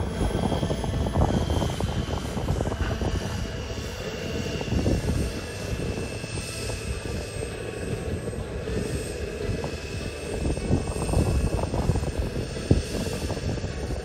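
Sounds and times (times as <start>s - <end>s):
model turboprop engine whine: 0.0s - 14.0s.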